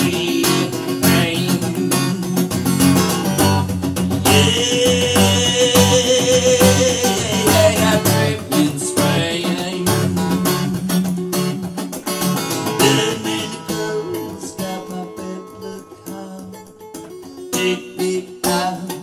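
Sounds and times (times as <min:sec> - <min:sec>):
fast picked acoustic guitar: 0:00.0 - 0:19.0.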